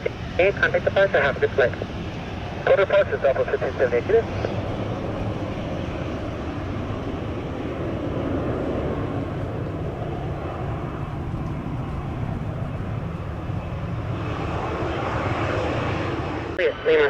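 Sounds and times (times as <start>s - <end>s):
jet engines roaring: 0.0s - 17.0s
wind buffeting microphone: 0.1s - 16.6s.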